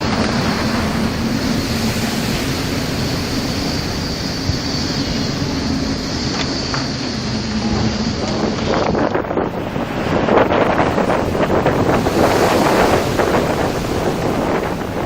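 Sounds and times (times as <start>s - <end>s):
heavy sea rushing: 0.0s - 15.0s
low engine drone: 0.0s - 15.0s
storm wind: 0.0s - 15.0s.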